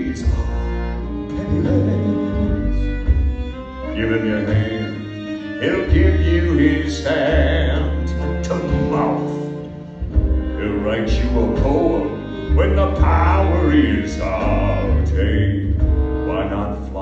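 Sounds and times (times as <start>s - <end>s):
person singing: 0.0s - 2.9s, 3.8s - 9.6s, 10.4s - 17.0s
bowed strings: 0.0s - 17.0s
deep bass notes: 0.0s - 17.0s.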